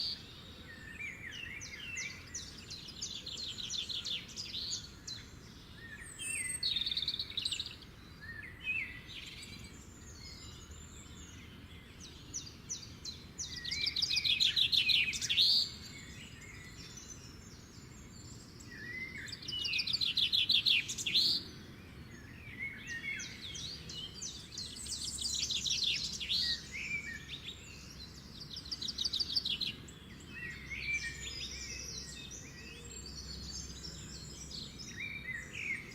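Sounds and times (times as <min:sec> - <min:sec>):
songbirds trilling and chirping: 0:00.0 - 0:35.9.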